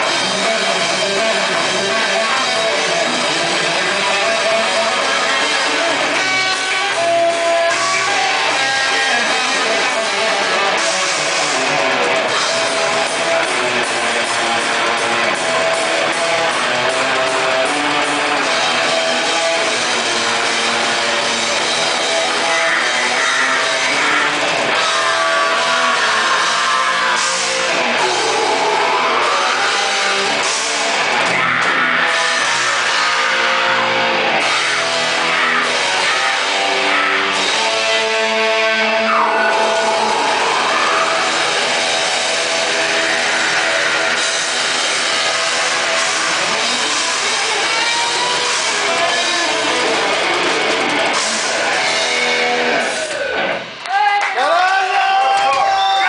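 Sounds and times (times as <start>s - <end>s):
sliding high guitar line: 0.0s - 53.6s
heavy metal band playing: 0.0s - 56.0s.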